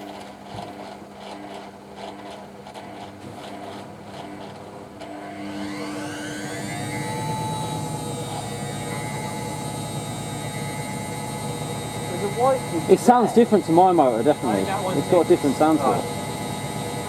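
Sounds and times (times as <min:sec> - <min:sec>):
washing machine motor whine: 0:00.0 - 0:17.0.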